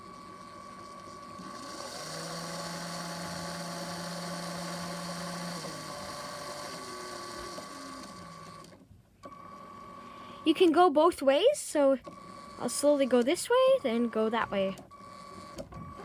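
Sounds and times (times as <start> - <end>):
small electric motor whine: 0.0 - 10.4, 12.0 - 16.0.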